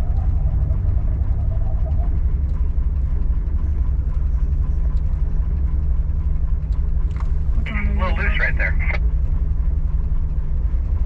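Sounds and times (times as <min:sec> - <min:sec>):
engine rumbling at low speed: 0:00.0 - 0:11.0.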